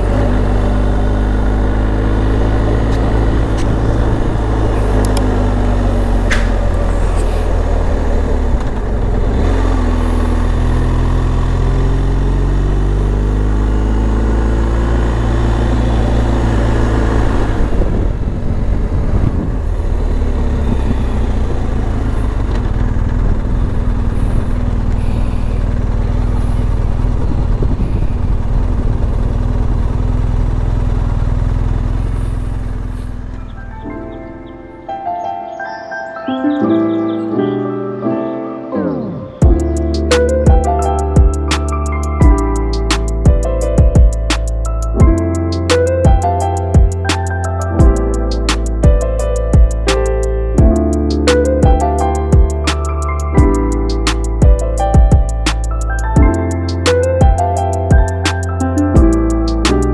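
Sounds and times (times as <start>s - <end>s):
motorcycle engine running: 0.0s - 34.8s, 39.4s - 59.9s.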